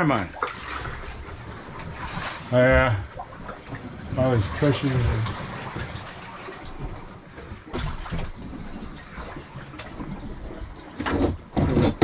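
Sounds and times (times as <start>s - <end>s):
seawater sloshing around hull: 0.0s - 12.0s.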